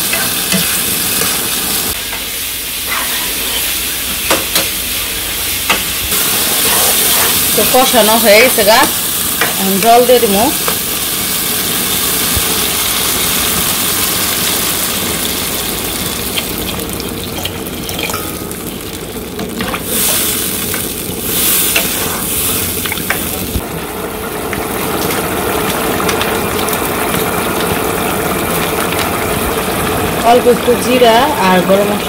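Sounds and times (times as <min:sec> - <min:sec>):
food sizzling in a pan: 0:00.0 - 0:32.0
water hissing in hot pan: 0:00.0 - 0:32.0.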